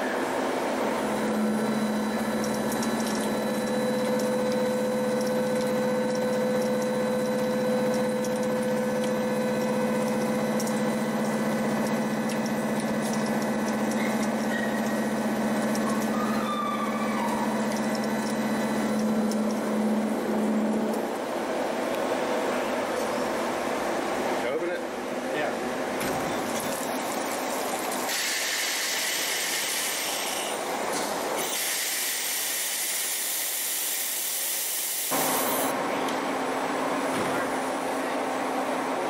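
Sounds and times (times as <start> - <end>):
milling machine hum: 0.0 - 39.0.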